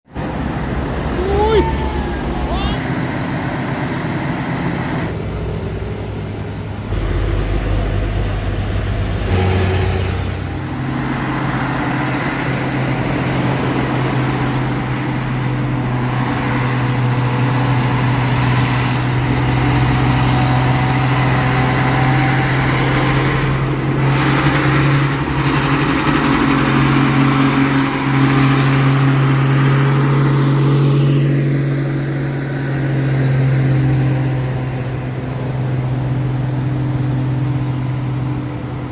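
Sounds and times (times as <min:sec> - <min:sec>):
diesel truck engine under load: 0:00.1 - 0:38.9.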